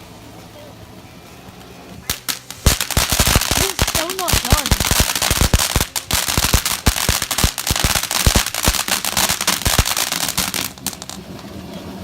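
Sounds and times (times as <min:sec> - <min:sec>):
firework crackling: 0:01.6 - 0:12.0.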